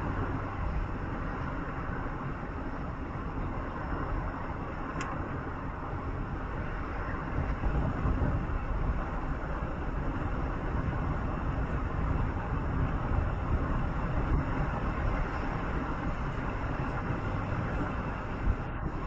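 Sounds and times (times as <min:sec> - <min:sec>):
road vehicle rumble: 0:00.0 - 0:19.0.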